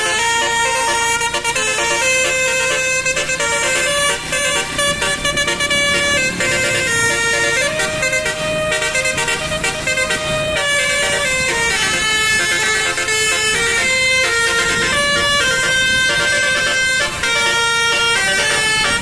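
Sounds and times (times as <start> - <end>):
musical bus horn playing a tune: 0.0 - 19.0.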